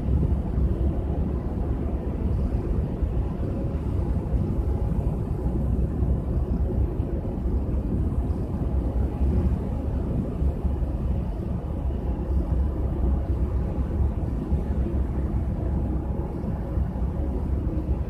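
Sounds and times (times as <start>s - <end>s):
ferry engine drone: 0.0s - 18.0s
wind buffeting microphone: 0.0s - 18.0s.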